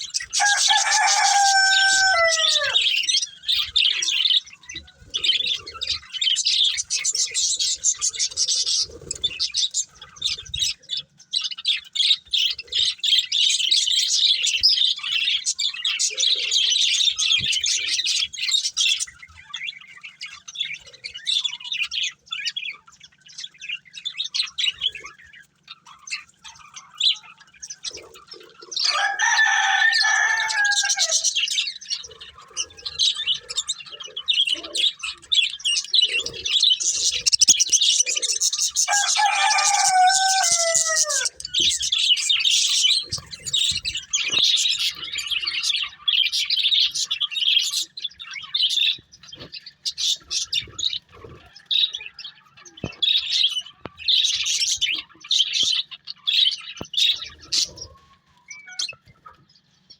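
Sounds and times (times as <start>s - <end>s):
budgerigars chirping: 0.0s - 59.7s.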